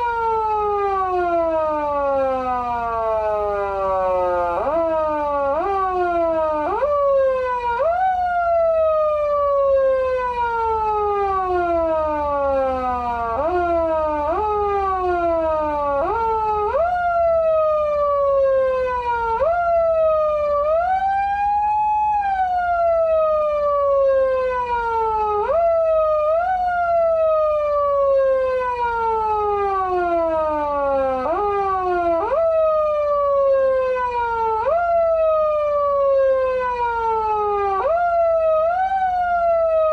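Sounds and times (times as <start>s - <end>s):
electronic siren rising and falling: 0.0s - 39.9s.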